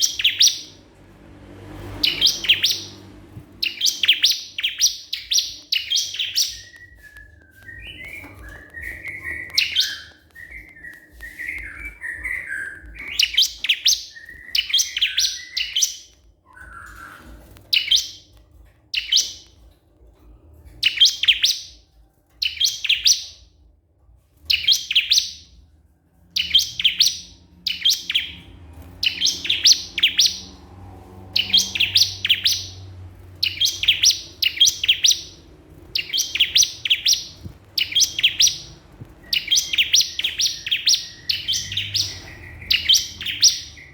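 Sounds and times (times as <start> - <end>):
soft bird twittering: 0.0 - 1.0, 1.6 - 18.3, 18.9 - 19.6, 20.7 - 21.8, 22.4 - 23.5, 24.4 - 25.6, 26.3 - 43.9
bird rapid high chirping: 0.0 - 18.3, 18.9 - 19.6, 20.7 - 21.8, 22.4 - 23.4, 24.5 - 25.6, 26.3 - 43.9.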